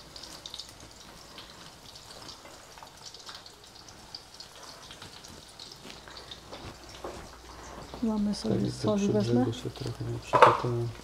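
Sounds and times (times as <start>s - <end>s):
pancakes sizzling in oil: 0.0s - 11.0s.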